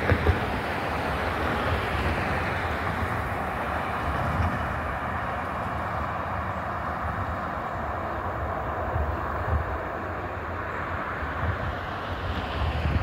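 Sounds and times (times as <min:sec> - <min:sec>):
cars passing on asphalt: 0:00.0 - 0:13.0.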